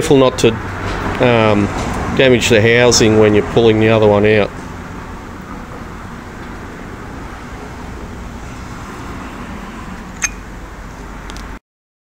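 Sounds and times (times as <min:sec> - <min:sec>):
traffic rumble: 0:00.0 - 0:11.6.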